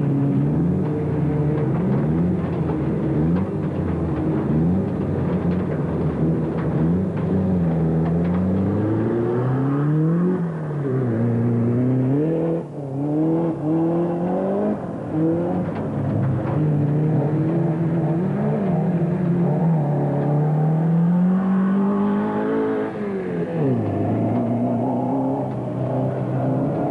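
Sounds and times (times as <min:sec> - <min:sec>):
race car engine revving: 0:00.0 - 0:26.9.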